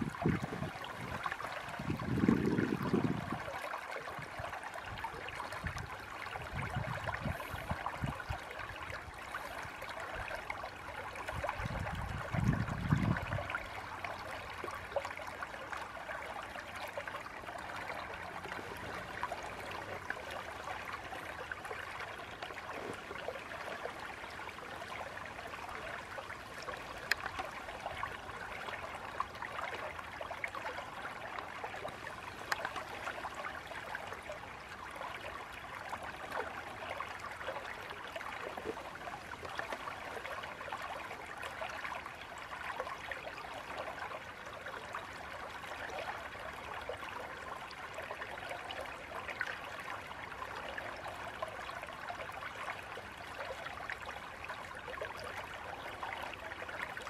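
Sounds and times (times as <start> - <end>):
water splashes: 0.0 - 57.0.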